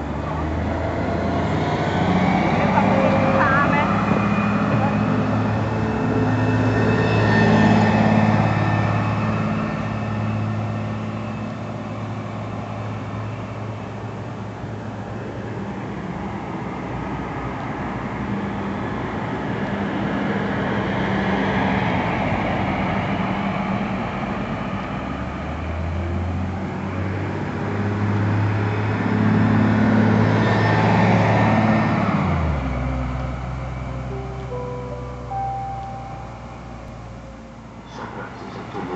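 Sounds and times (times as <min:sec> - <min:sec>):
bus diesel engines climbing: 0:00.0 - 0:38.9.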